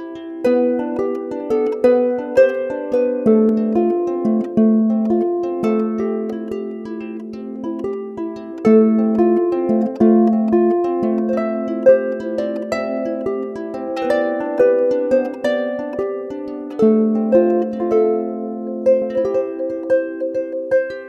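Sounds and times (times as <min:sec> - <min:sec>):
plucked lyre harp melody: 0:00.0 - 0:21.0.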